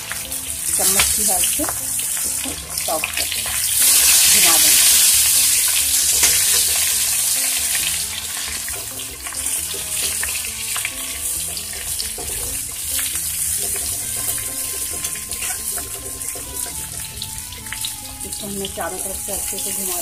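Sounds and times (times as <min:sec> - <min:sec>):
okra sizzling in oil: 0:00.0 - 0:20.0.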